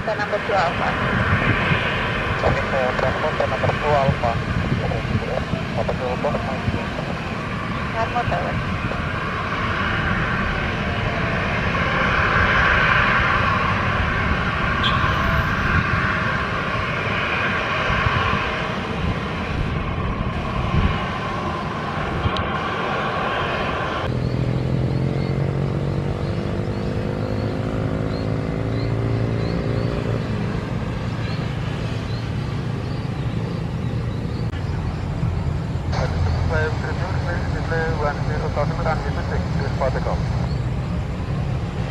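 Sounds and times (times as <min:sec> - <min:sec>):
jet engine whine and rush: 0:00.0 - 0:41.9
low engine drone: 0:00.0 - 0:41.9.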